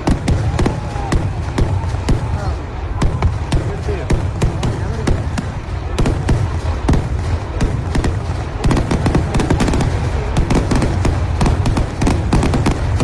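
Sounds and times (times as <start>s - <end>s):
loud firecracker bangs: 0.0s - 13.0s.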